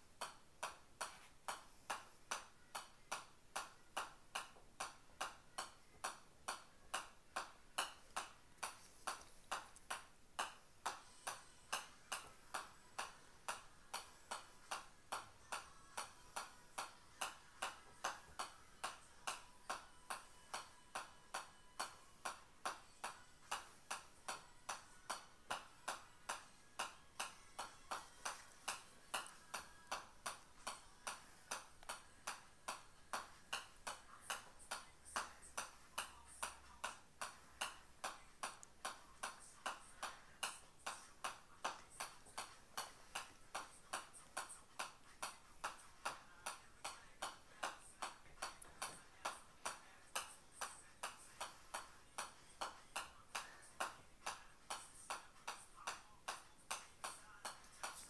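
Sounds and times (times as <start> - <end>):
golf ball tapping on club face: 0.2 - 58.0.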